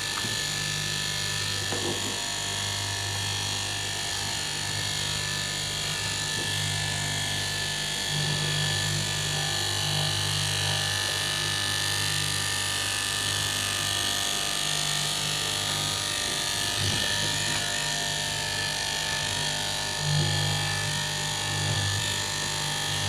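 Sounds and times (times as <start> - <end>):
cloth cutting machine humming: 0.0 - 23.0.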